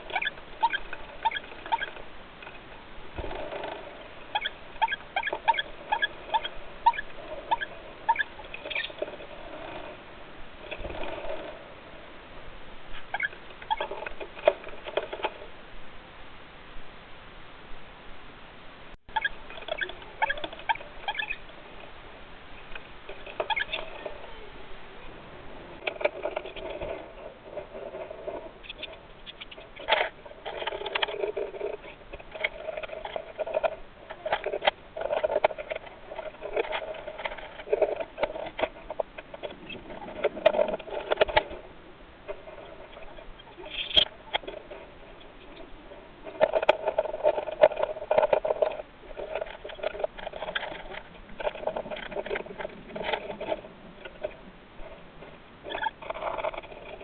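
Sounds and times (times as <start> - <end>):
bird pecking and scratching: 0.0 - 10.0, 12.9 - 15.5, 19.2 - 21.9, 22.6 - 24.5, 25.6 - 57.0.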